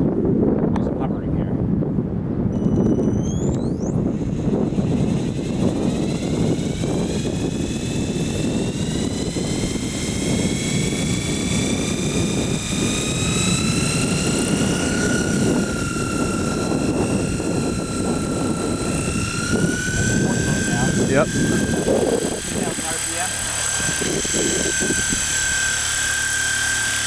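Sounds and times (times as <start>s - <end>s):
wind noise on microphone: 0.0s - 27.0s
helicopter motor and rotor whine: 2.4s - 27.0s.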